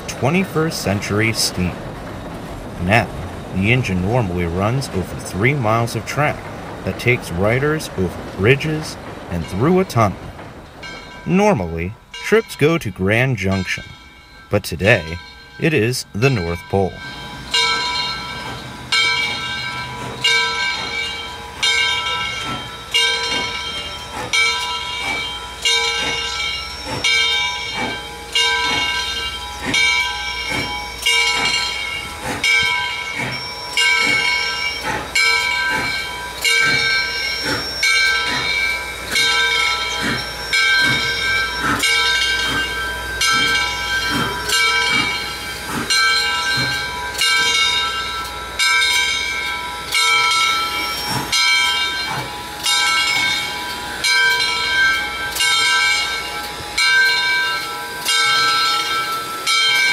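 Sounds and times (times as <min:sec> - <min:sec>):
locomotive bell ringing: 0:00.0 - 0:59.9
steam hissing: 0:00.0 - 0:59.9.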